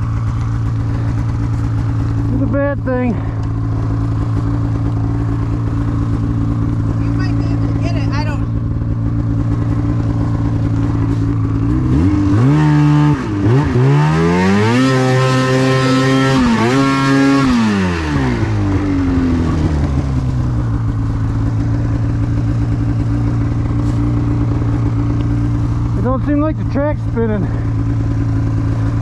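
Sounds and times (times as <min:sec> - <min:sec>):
snowmobile engine revving: 0:00.0 - 0:29.0.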